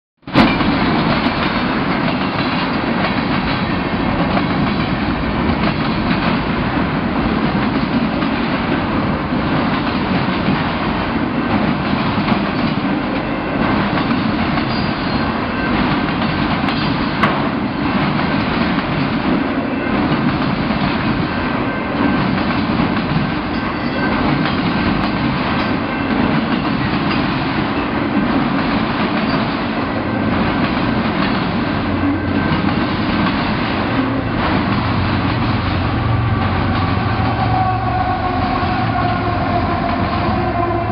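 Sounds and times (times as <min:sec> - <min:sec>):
train wheels rumbling on rails: 0:00.2 - 0:40.9.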